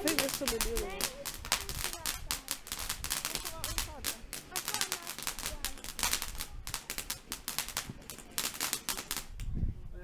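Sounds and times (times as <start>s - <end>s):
firework crackling: 0.0s - 9.6s.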